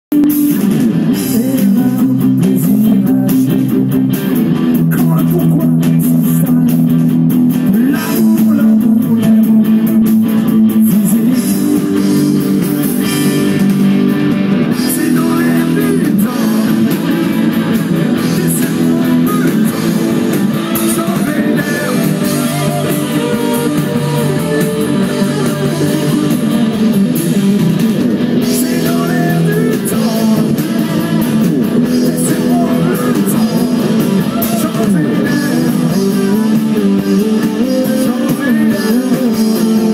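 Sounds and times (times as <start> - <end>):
bass guitar: 0.0 - 39.9
drums: 0.0 - 39.9
electric guitars: 0.1 - 39.9.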